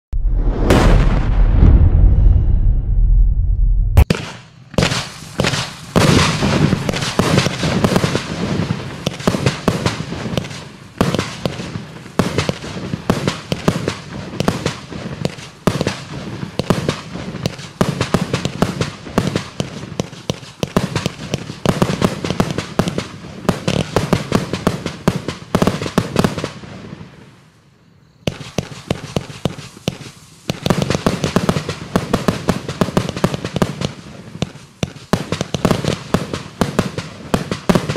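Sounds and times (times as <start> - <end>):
firework bursts crackling: 4.0 - 27.4, 28.2 - 37.9.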